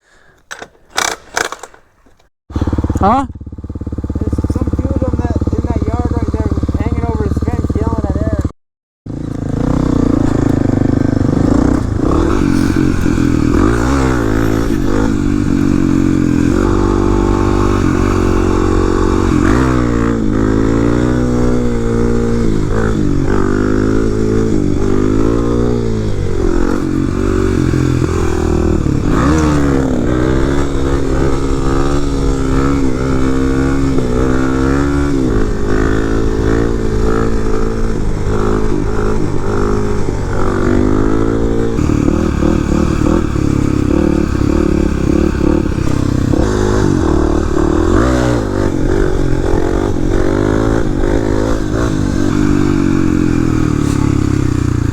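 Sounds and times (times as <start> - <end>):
dirt bike engine revving: 2.5 - 8.5, 9.1 - 54.9.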